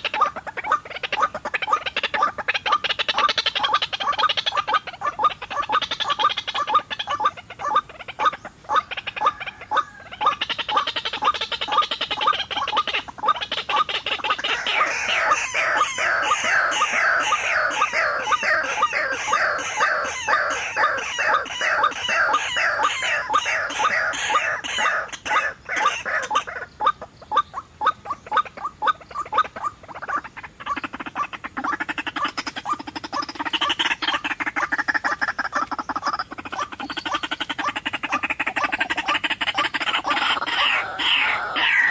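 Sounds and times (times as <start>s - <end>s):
lower-pitched bird calls: 0.0s - 41.9s
waterhens croaking calls: 0.0s - 41.9s.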